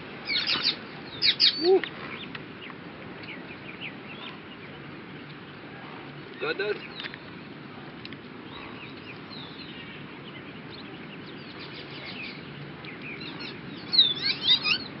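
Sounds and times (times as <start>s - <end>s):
small birds chirping and twittering: 0.0s - 15.0s
steady outdoor hiss: 0.0s - 15.0s.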